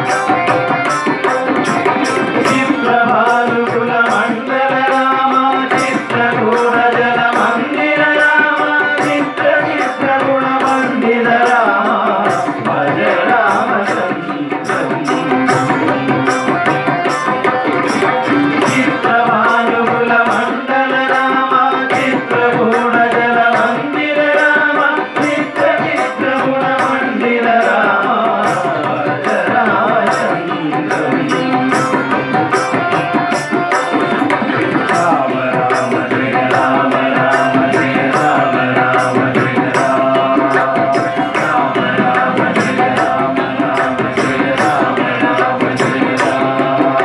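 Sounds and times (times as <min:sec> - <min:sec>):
hand drums playing rhythm: 0:00.0 - 0:47.0
harmonium chords: 0:00.0 - 0:47.0
voices singing: 0:00.0 - 0:47.0.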